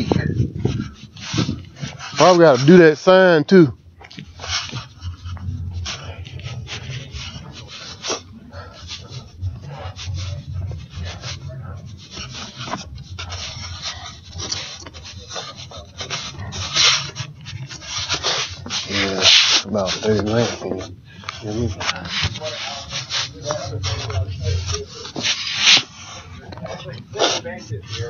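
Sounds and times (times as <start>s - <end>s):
rubbing on microphone: 0.0s - 28.0s.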